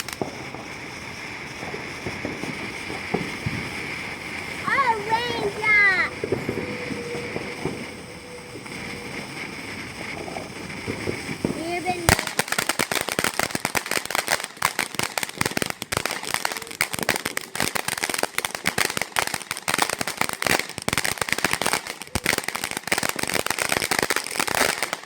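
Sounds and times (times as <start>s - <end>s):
firecrackers popping: 0.0s - 25.0s.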